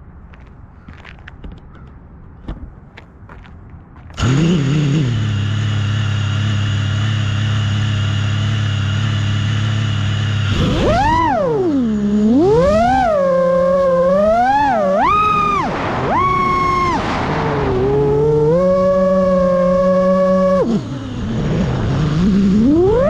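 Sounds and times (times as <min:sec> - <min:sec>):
quadcopter motors whining: 0:04.2 - 0:23.0.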